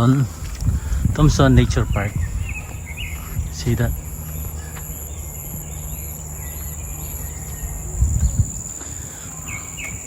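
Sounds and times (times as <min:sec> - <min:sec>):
low rumble: 0:00.2 - 0:10.0
pulsing buzz: 0:00.2 - 0:10.0
high-pitched insect drone: 0:00.4 - 0:10.0
low thumps: 0:00.4 - 0:10.0.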